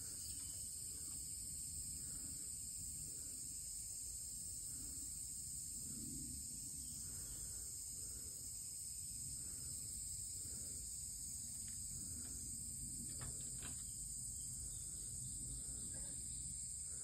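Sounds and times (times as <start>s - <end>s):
insect chorus drone: 0.0s - 17.0s
lower insect calls: 0.0s - 17.0s.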